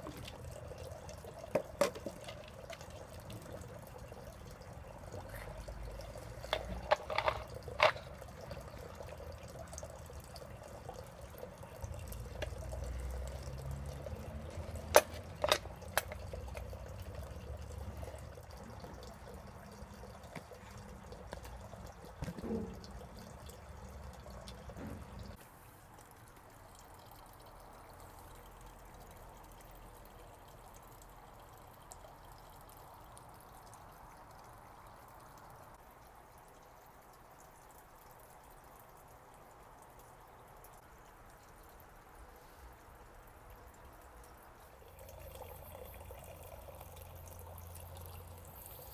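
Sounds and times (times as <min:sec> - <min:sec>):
sharp drips: 0:00.0 - 0:48.9
water trickling and dripping: 0:00.0 - 0:48.9.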